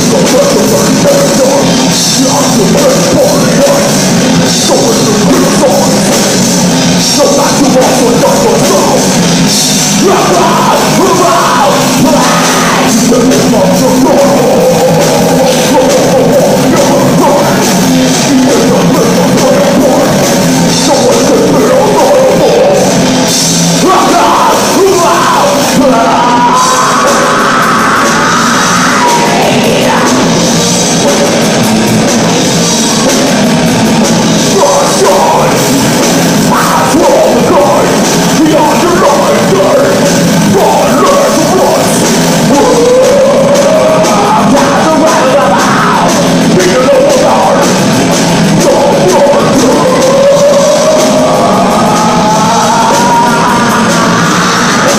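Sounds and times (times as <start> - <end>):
person singing: 0.0 - 33.3, 34.4 - 54.9
heavy metal band playing: 0.0 - 54.9.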